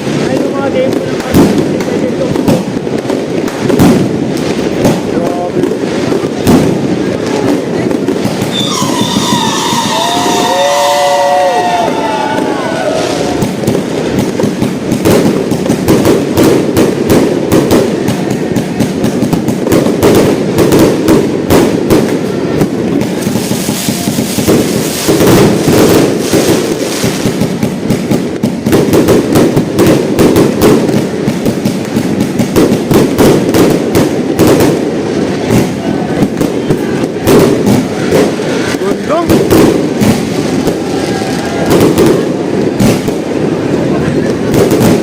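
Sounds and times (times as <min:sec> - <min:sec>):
fireworks barrage: 0:00.0 - 0:45.0.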